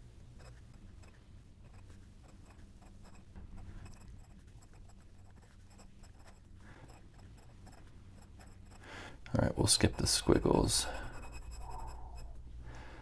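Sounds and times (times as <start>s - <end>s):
steady low hum: 0.0s - 13.0s
pen nib scratching paper: 0.4s - 8.8s, 9.7s - 12.4s.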